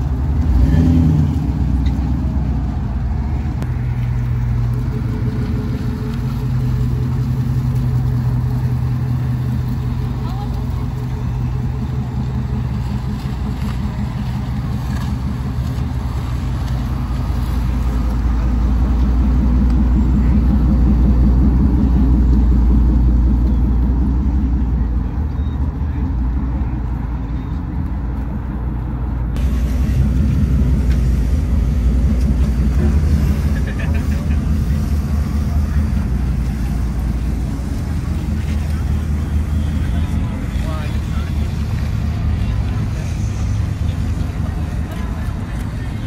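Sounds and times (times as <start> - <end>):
pickup truck engine running: 0.0 - 46.0.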